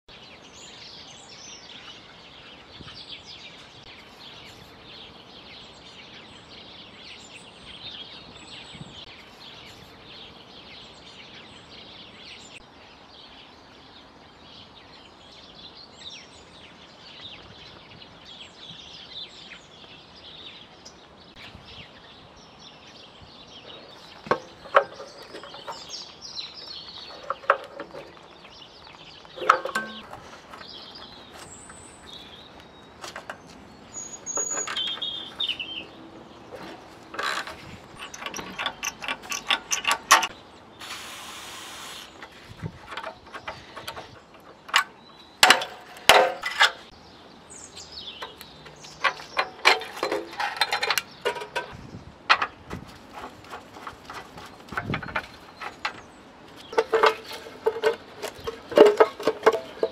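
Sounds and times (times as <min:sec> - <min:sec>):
birds chirping: 0:00.0 - 0:59.9
outdoor background noise: 0:00.0 - 0:59.9.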